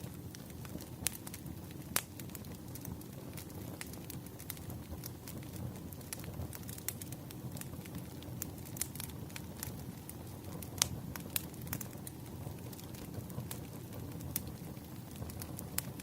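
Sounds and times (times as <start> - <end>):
burning logs crackling and popping: 0.0 - 16.0
campfire flames rushing: 0.0 - 16.0.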